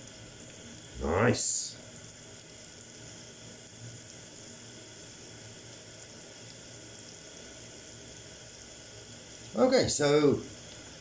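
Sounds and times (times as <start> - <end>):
onions sizzling in a pan: 0.0 - 11.0.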